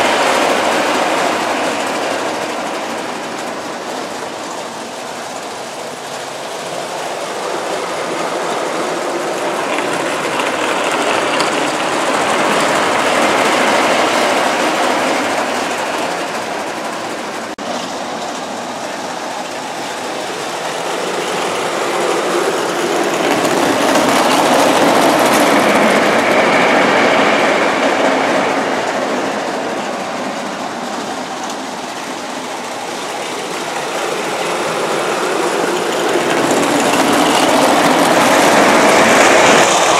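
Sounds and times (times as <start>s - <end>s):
model train wheels rattling on rails: 0.0s - 39.9s.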